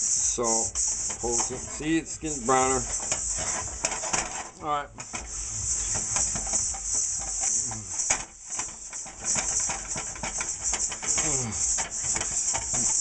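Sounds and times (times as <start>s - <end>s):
gritty scraping in a wok: 0.0s - 13.0s
steady high hiss: 0.0s - 13.0s.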